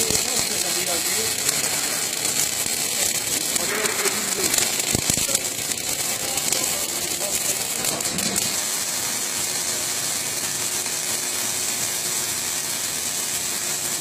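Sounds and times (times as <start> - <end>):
welding arc crackling hiss: 0.0 - 14.0.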